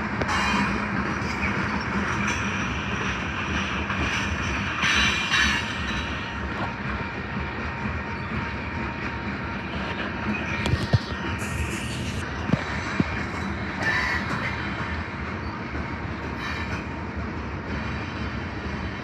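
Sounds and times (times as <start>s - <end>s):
train rattle: 0.0s - 19.0s
train wheels on rails: 0.0s - 19.0s.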